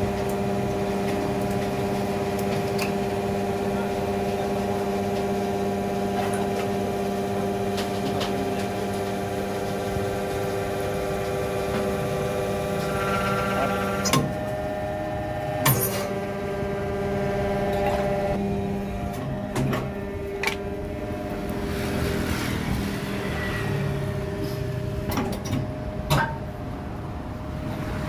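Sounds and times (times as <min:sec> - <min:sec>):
baling press machine hum: 0:00.0 - 0:28.0.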